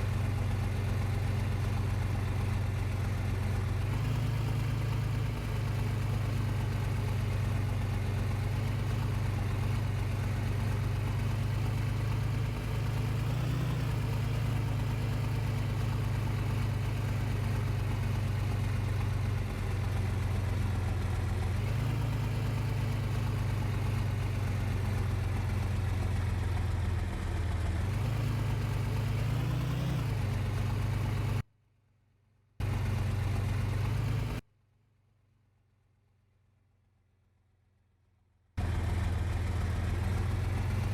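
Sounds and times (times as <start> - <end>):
vehicle engine droning: 0.0 - 31.4, 32.6 - 34.4, 38.6 - 40.9.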